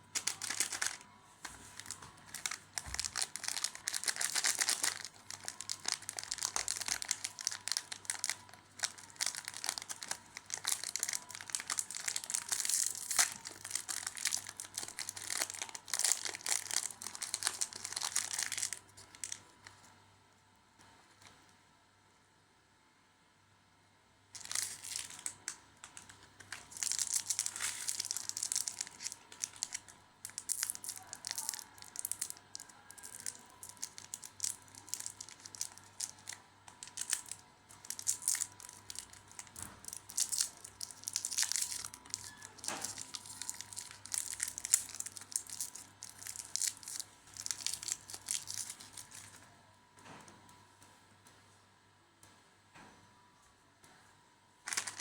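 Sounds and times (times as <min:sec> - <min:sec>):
plastic packaging crinkling: 0:00.0 - 0:19.9, 0:24.3 - 0:49.4, 0:54.6 - 0:55.0.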